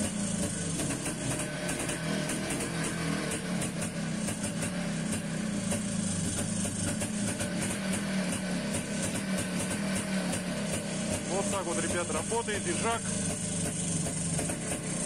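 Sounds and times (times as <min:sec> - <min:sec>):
two-stroke motorcycle engine running: 0:00.0 - 0:15.0.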